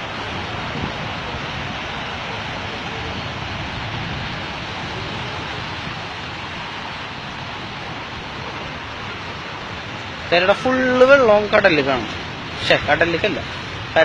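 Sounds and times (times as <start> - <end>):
surf breaking on shore: 0.0 - 14.0.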